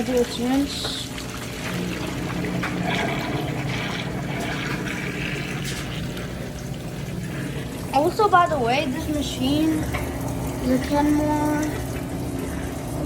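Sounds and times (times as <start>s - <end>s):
water rushing into washing machine: 0.0s - 13.0s.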